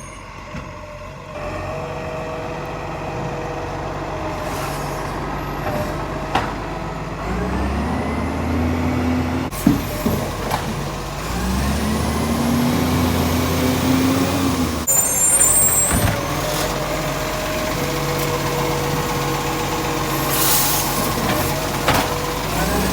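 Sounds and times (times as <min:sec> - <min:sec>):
diesel engine idling and revving: 0:00.0 - 0:22.9.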